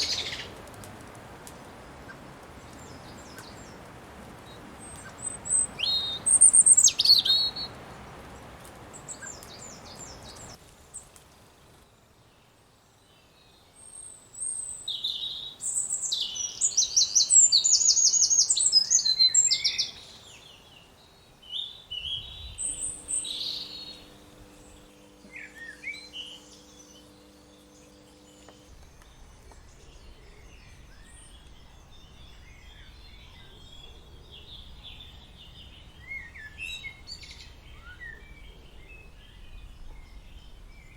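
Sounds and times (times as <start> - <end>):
songbirds singing and trilling: 0.0 - 40.9.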